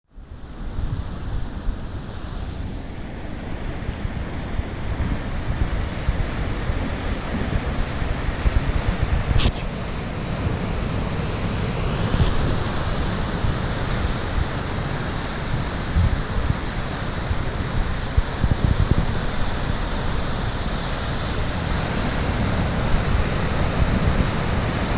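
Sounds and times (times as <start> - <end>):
sea surf: 0.2 - 24.9
wind gusting against microphone: 0.2 - 24.9.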